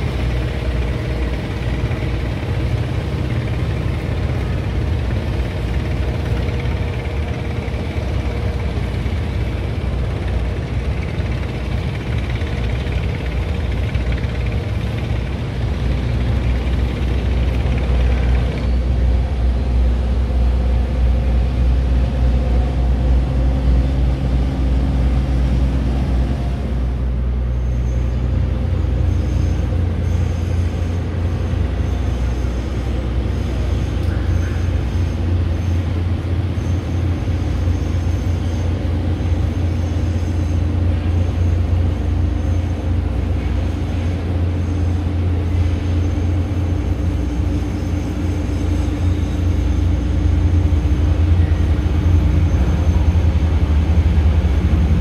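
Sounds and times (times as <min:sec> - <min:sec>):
heavy engine droning: 0:00.0 - 0:55.0.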